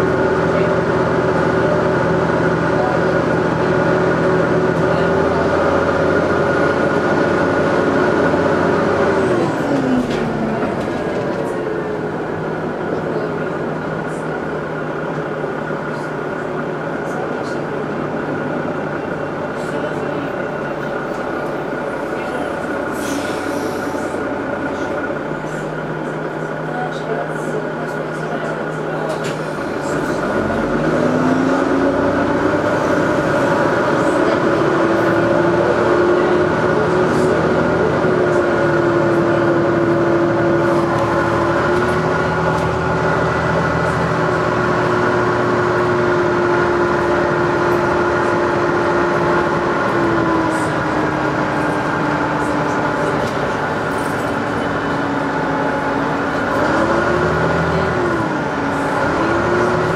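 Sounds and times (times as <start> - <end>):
bus engine and gearbox whine: 0.0 - 59.9.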